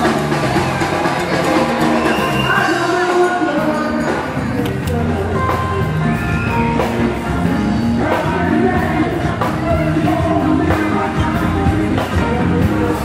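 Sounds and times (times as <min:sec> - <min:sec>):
guitar: 0:00.0 - 0:13.0
steady drum beat: 0:00.0 - 0:13.0
person singing: 0:02.0 - 0:13.0.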